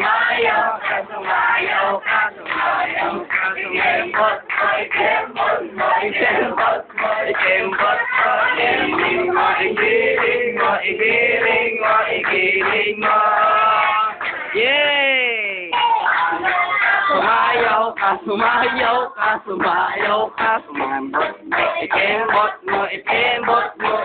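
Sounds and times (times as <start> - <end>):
people singing together with music: 0.0 - 14.6, 15.8 - 24.0.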